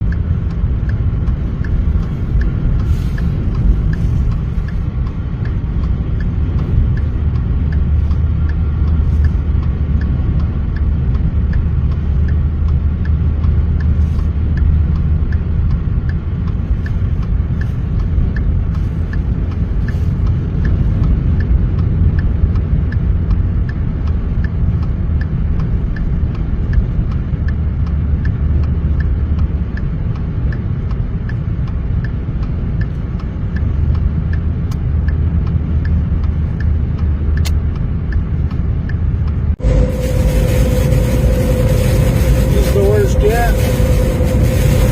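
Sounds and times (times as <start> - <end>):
vehicle rumble from inside cab: 0.0 - 44.9
faint regular ticks: 0.1 - 39.0.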